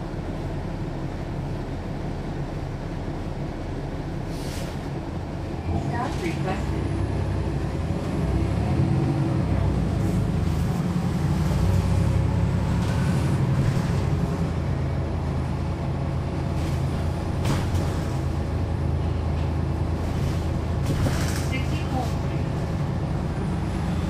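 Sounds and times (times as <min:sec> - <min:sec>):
diesel bus engine droning: 0:00.0 - 0:24.0.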